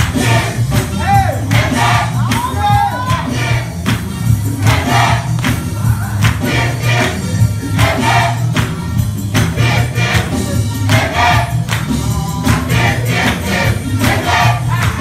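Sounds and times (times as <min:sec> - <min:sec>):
gospel choir singing: 0:00.0 - 0:15.0
heavy bass line and beat: 0:00.0 - 0:15.0.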